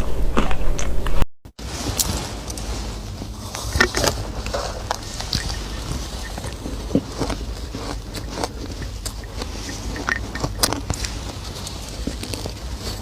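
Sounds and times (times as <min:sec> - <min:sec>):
ice crunching between teeth: 0:01.8 - 0:13.0.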